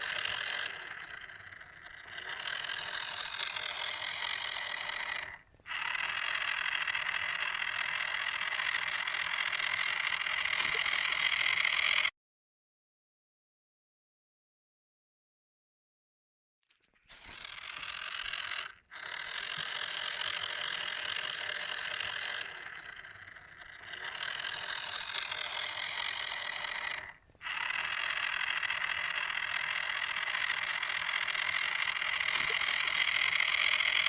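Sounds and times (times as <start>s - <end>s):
electric motor whirring with whine: 0.0s - 12.1s, 17.1s - 34.0s.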